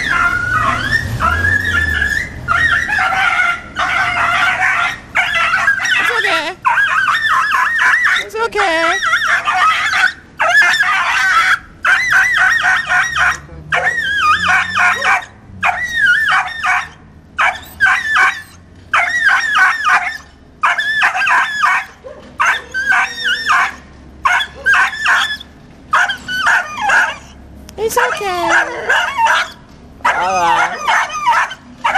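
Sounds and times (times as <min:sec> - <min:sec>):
dog yelping in distress: 0:00.0 - 0:31.9.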